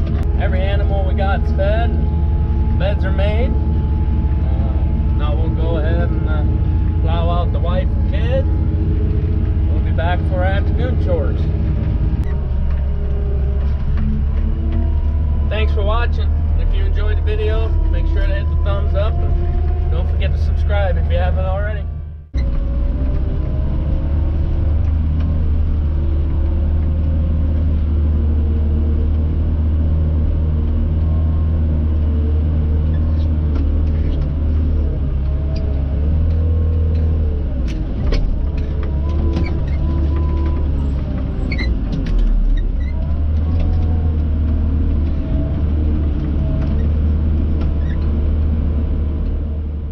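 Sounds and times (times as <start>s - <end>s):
loader diesel engine running: 0.0s - 49.9s.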